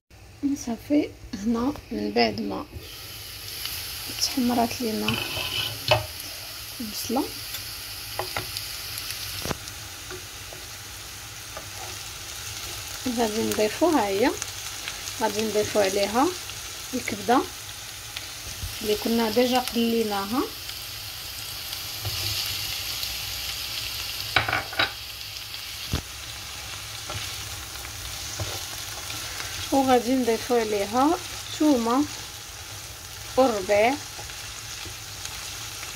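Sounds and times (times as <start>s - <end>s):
onions sizzling in oil: 0.2s - 35.9s.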